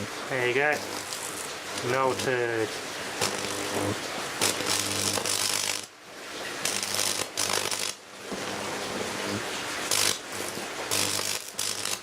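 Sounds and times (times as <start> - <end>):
electric arc buzzing and crackling: 0.0 - 12.0.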